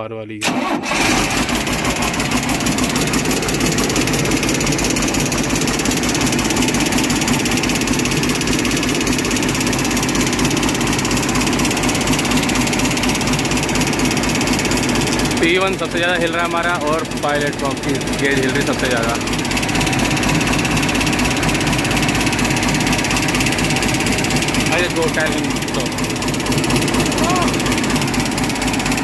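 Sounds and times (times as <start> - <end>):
diesel engine running: 0.4 - 29.0.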